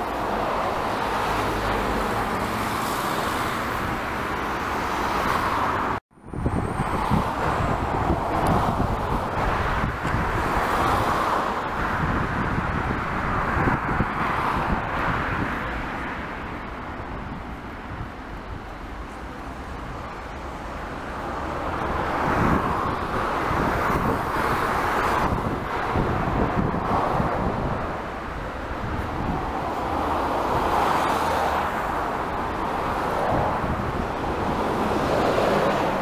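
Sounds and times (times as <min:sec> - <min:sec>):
wind on microphone: 0:00.0 - 0:19.0, 0:19.8 - 0:36.0
cars passing: 0:00.0 - 0:36.0.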